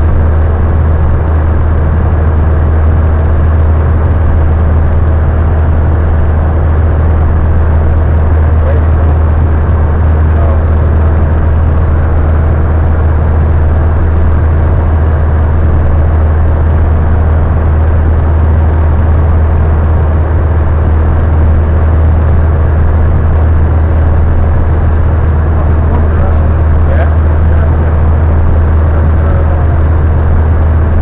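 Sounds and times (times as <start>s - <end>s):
light aircraft engine drone in cabin: 0.0s - 31.0s.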